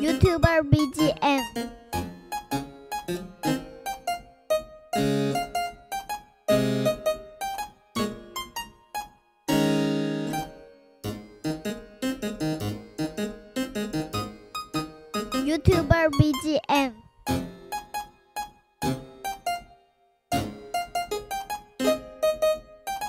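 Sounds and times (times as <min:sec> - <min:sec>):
keyboard music: 0:00.0 - 0:23.0.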